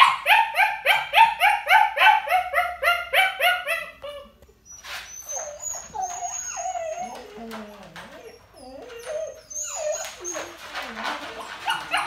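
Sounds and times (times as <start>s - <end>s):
puppy whining: 0.0s - 12.0s
puppy yapping: 0.0s - 12.0s.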